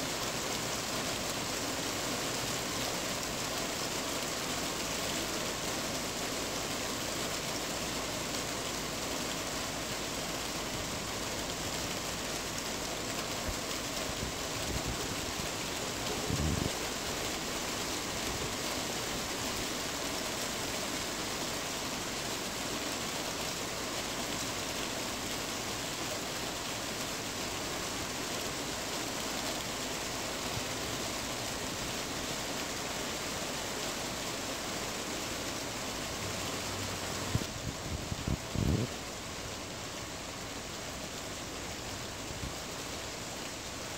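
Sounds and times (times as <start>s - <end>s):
rain on a tin roof: 0.0s - 43.9s.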